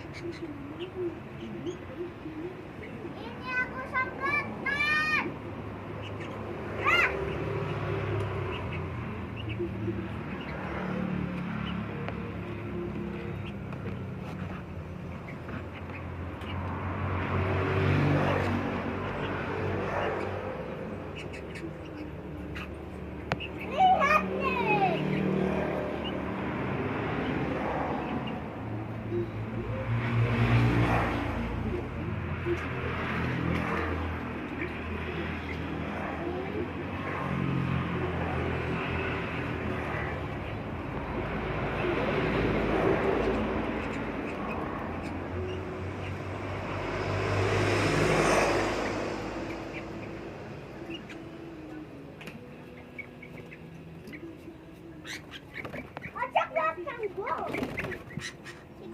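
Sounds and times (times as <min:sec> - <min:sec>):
vehicle passing by: 0:00.0 - 0:58.9.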